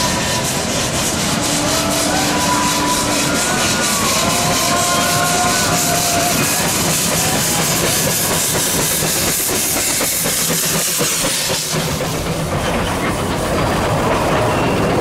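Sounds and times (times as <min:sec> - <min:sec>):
carriages rumbling with wheel clatter: 0:00.0 - 0:15.0
steam locomotive hissing and chuffing: 0:00.0 - 0:15.0.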